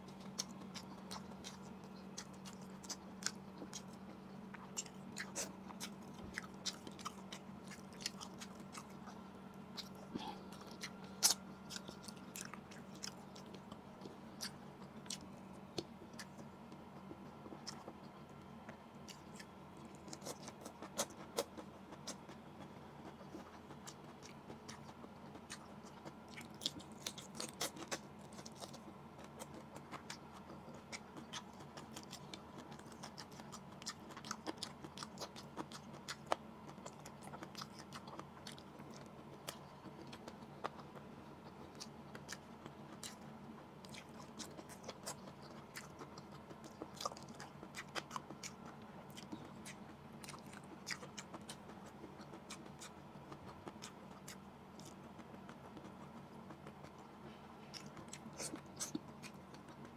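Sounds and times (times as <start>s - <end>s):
faint low hum: 0.0s - 59.9s
person chewing with mouth clicks: 0.0s - 59.9s.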